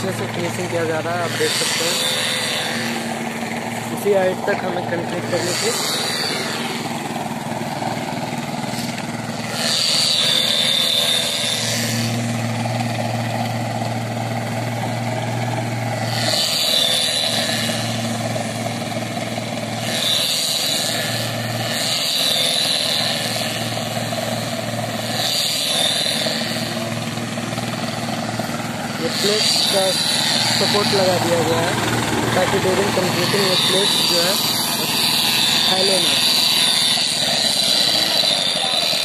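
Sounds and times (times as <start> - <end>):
truck engine low hum: 0.0 - 39.0.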